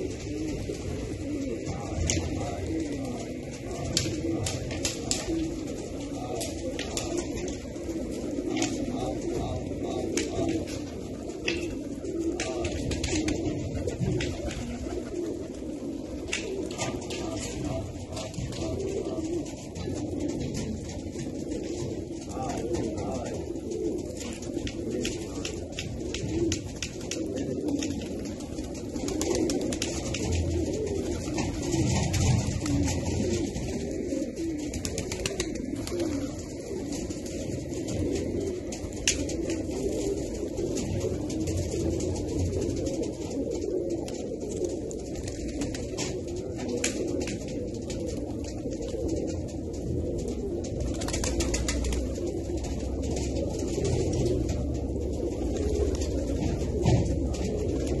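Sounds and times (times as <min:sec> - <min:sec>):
pigeons cooing: 0:00.0 - 0:58.0
wing flutters or clicks: 0:00.1 - 0:07.7, 0:08.4 - 0:21.3, 0:24.2 - 0:33.8, 0:34.7 - 0:54.8.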